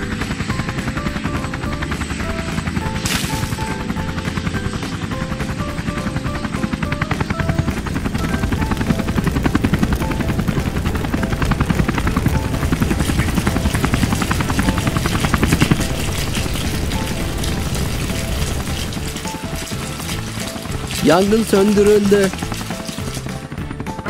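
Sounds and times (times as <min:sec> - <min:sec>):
helicopter rotor chop: 0:00.0 - 0:24.0
plinking melody: 0:00.2 - 0:24.0.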